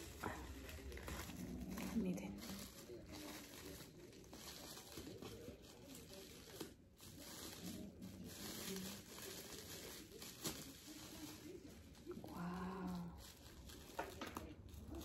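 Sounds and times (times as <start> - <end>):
paper wrapping rustling and tearing: 0.0 - 15.0.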